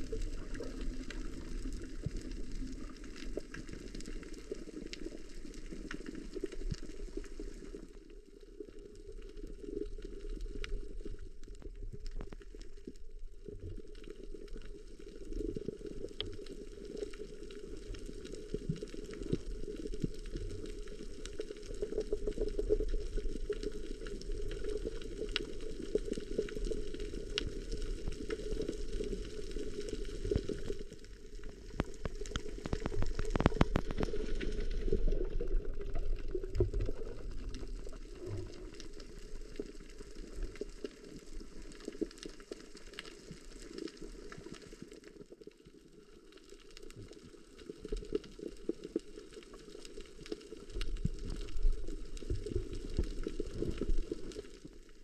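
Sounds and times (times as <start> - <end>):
crackling clicks: 0.0 - 55.0
underwater churning of water: 0.0 - 55.0.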